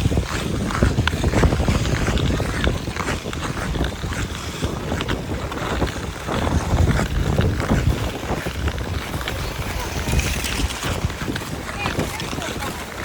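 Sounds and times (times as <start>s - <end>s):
ice skate blades scraping ice: 0.0s - 13.0s
wind buffeting microphone: 0.0s - 13.0s.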